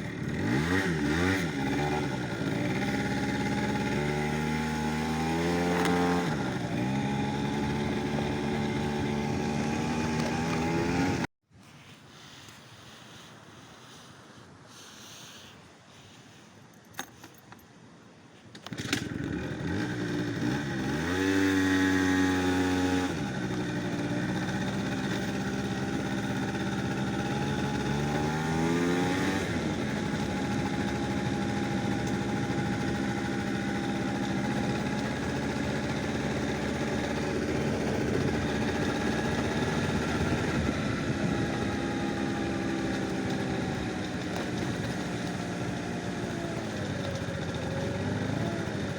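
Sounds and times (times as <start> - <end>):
vehicle engine accelerating: 0.0 - 11.3, 18.8 - 48.9.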